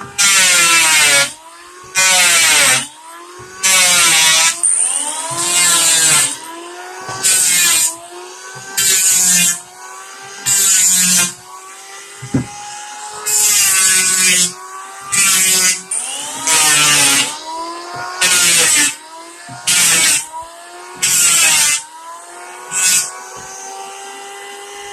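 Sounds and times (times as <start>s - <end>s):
electric planer cutting wood: 0.0s - 24.9s.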